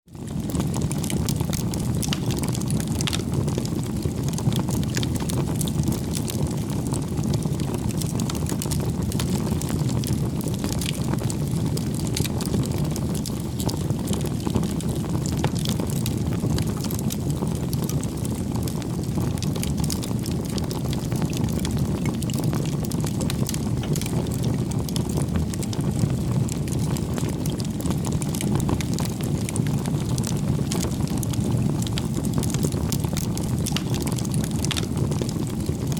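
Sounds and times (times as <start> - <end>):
bonfire flames rushing: 0.2 - 35.9
burning wood crackling: 0.3 - 35.9.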